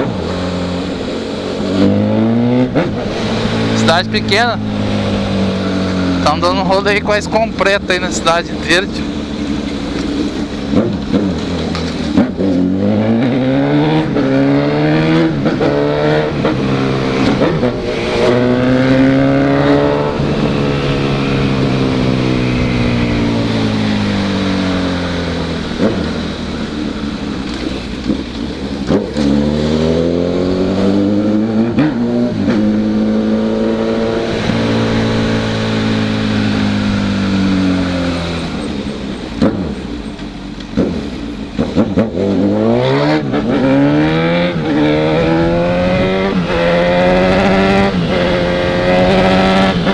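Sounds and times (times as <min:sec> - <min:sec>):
motorcycle engine revving through gears: 0:00.0 - 0:49.9.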